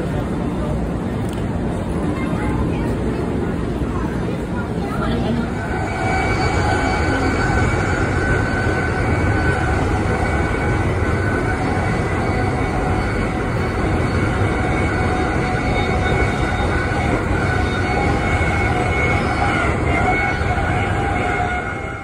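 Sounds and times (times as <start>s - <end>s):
train wheels rumbling on rail: 0.0s - 22.0s
faint high steady tones: 3.6s - 22.0s.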